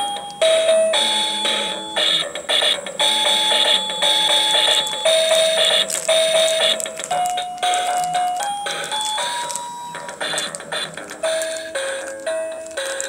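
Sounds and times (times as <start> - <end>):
electronic toy melody beeping: 0.0 - 13.0.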